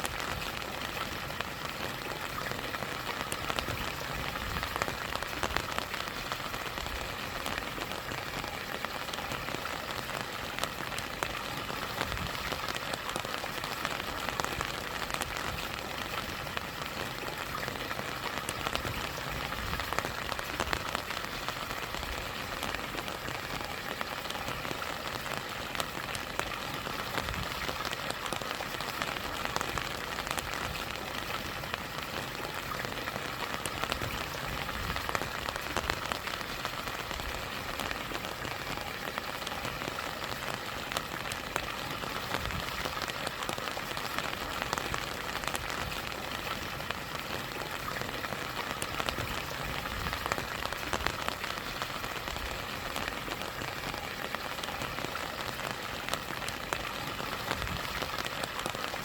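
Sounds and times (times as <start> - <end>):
raindrop ticks: 0.0 - 59.0
rushing stream: 0.0 - 59.0.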